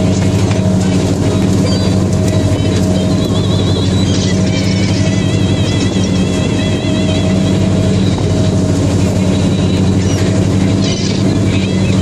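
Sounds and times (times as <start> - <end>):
boat engine droning: 0.0 - 12.0
thin wavering high tone: 1.6 - 12.0.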